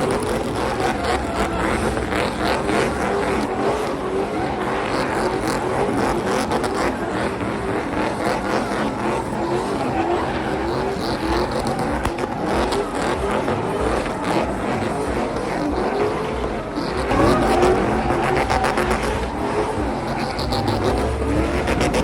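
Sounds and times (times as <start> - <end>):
vehicle engines revving: 0.0 - 22.0.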